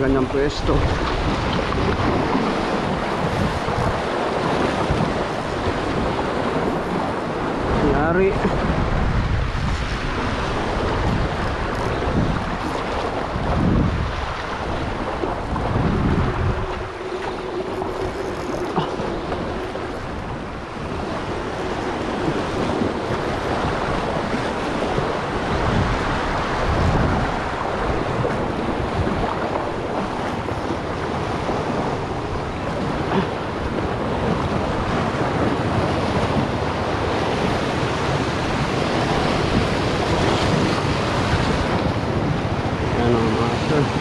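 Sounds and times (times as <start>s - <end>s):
waves breaking on rocks: 0.0s - 44.0s
wind buffeting microphone: 0.0s - 44.0s.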